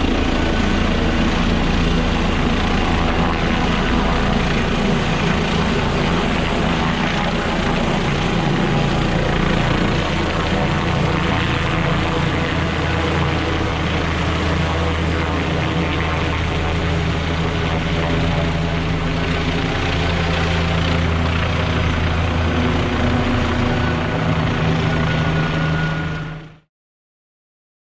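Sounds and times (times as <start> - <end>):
helicopter engine whine: 0.0 - 26.7
helicopter rotors humming: 0.0 - 26.7.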